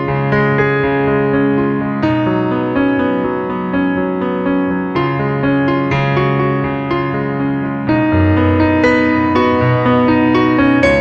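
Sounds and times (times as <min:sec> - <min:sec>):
keyboard melody: 0:00.0 - 0:11.0.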